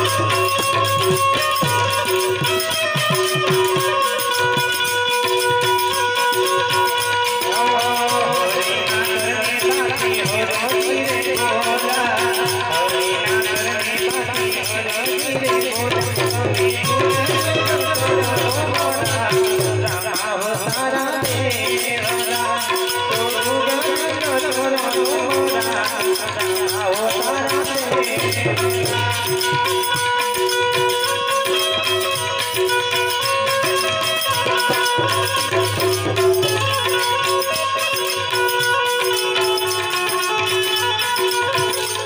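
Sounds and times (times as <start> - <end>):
harmonium playing: 0.0 - 42.0
man singing: 0.0 - 42.0
rattling percussion beat: 0.0 - 42.0.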